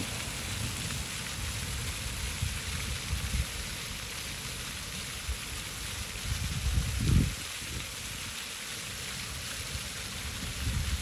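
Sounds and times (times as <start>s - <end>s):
fountain jets splashing on paving: 0.0s - 11.0s.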